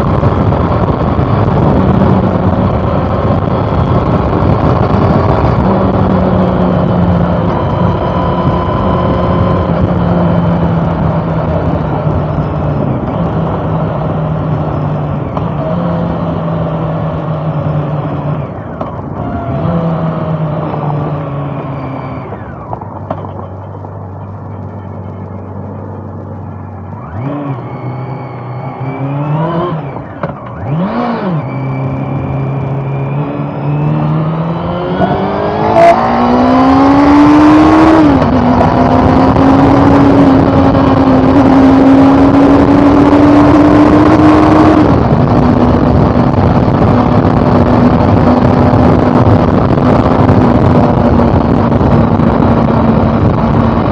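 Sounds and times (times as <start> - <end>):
motorcycle engine revving and accelerating: 0.0 - 53.9
wind rushing over microphone: 0.0 - 53.9.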